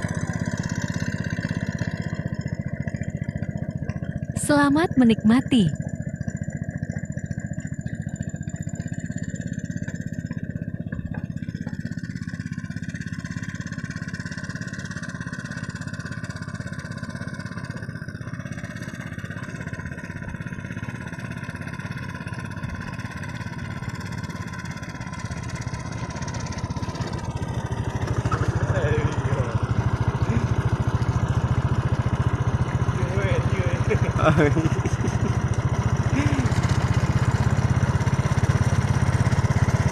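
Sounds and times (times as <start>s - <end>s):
hand tractor engine chugging: 0.0s - 39.9s.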